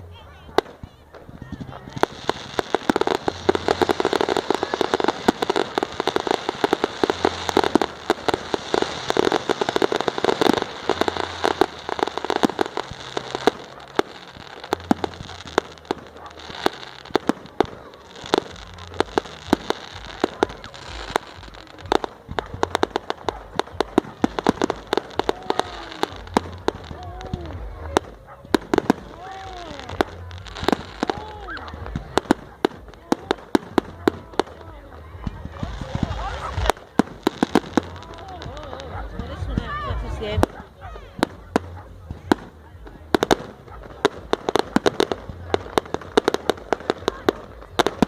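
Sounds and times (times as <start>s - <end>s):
fireworks crackling and banging: 0.0s - 48.0s.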